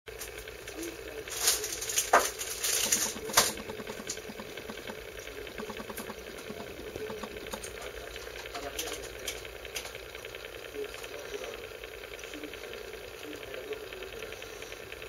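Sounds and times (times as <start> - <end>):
fine irregular clicking: 0.1 - 15.0
turntable motor humming: 0.1 - 15.0.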